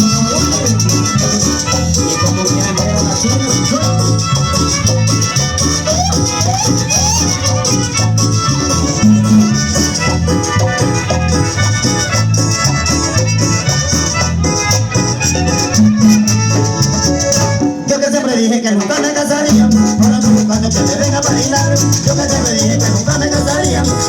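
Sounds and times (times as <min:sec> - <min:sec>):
pulsing bass line: 0:00.0 - 0:17.9, 0:19.5 - 0:24.0
high percussion rattle: 0:00.0 - 0:18.2, 0:18.9 - 0:24.0
cumbia music: 0:00.0 - 0:24.0.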